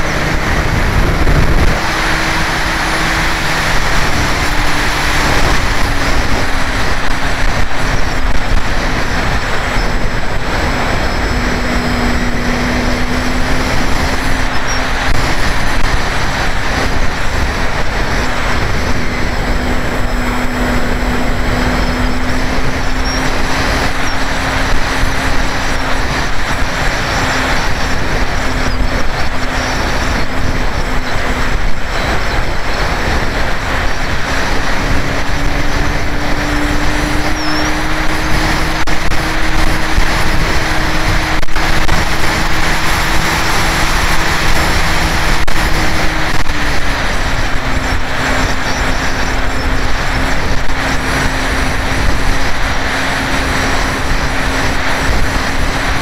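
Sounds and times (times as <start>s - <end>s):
steady propeller tone: 0.0s - 56.0s
wind rush over microphone: 0.0s - 56.0s.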